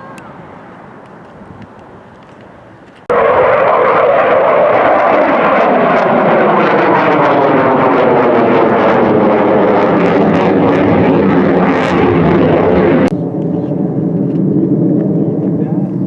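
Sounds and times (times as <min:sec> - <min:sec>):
airplane flying past: 0:03.1 - 0:16.0.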